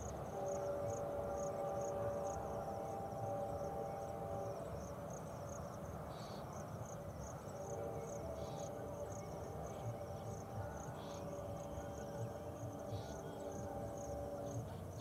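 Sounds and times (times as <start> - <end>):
distant diesel train rumble: 0.0 - 15.0
insects chirping: 0.0 - 15.0.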